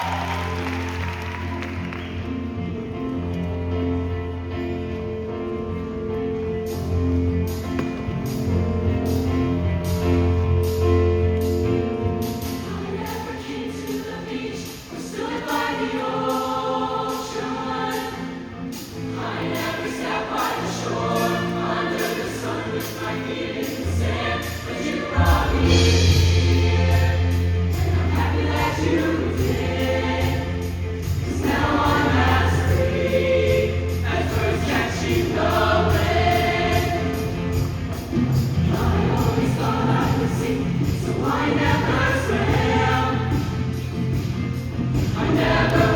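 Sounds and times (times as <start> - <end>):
show choir singing: 0.0 - 45.9.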